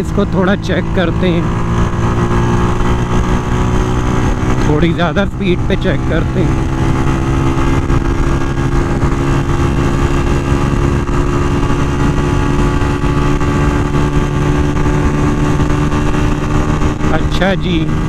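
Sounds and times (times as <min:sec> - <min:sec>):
motorcycle engine running: 0:00.0 - 0:18.0
wind rush on microphone: 0:01.3 - 0:18.0.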